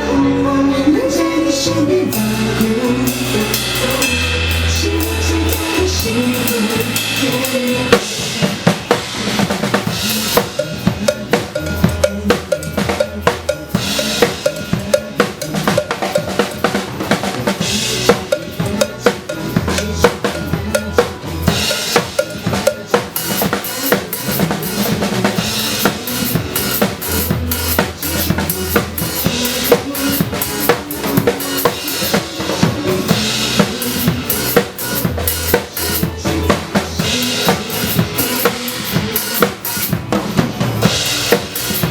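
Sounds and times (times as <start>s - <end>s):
pop backing track with bass: 0.0s - 41.9s
drum kit played hard: 0.9s - 41.9s.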